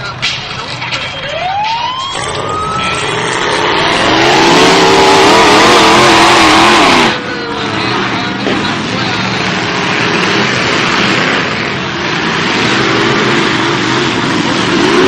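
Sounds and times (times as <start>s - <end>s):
car engines revving hard: 2.0s - 15.0s.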